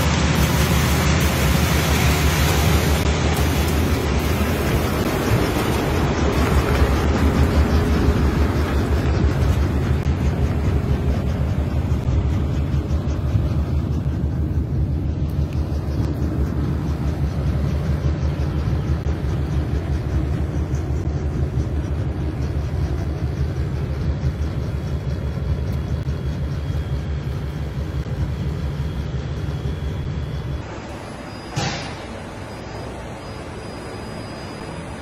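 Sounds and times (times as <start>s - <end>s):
tractor engine rumbling: 0.0s - 35.0s.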